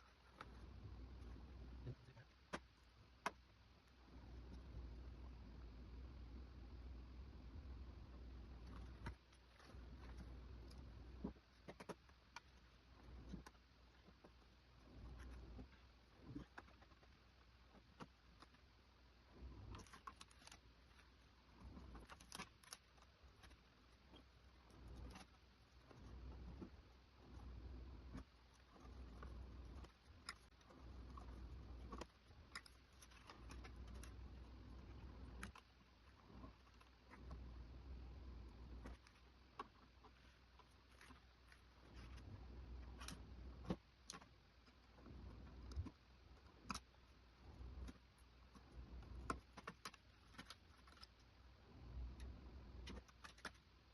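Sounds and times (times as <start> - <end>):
faint low hum: 0.0 - 53.9
faint clicks and knocks: 8.1 - 53.9.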